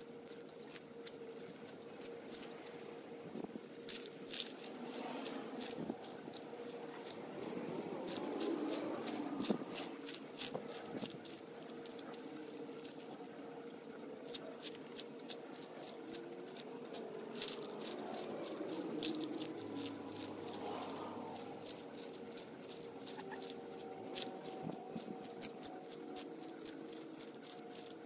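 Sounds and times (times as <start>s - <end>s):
steady low hum: 0.0s - 28.0s
tortoise crunching lettuce: 0.0s - 28.0s.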